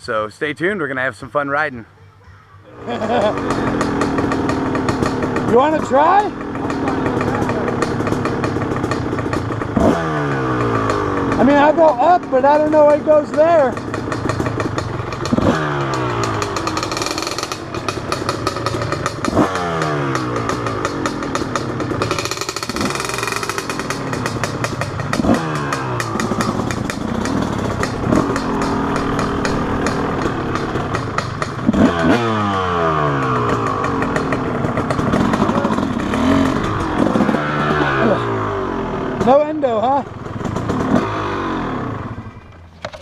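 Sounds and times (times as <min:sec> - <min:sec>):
dirt bike engine revving: 0:02.7 - 0:42.4.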